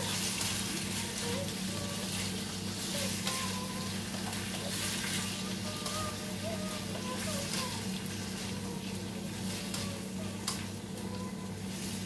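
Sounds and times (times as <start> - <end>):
liver sizzling in hot oil: 0.0 - 12.0.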